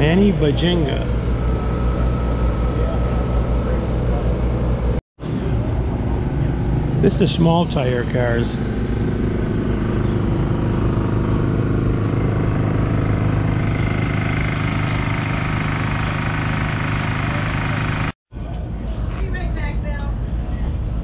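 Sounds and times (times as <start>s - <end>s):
engine idling: 0.0s - 18.2s.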